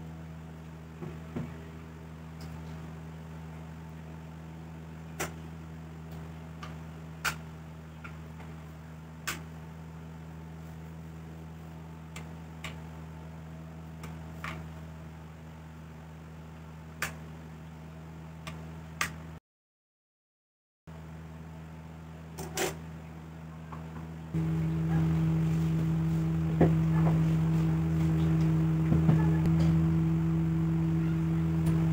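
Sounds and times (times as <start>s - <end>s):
steady low hum: 0.0s - 19.4s, 20.9s - 31.9s.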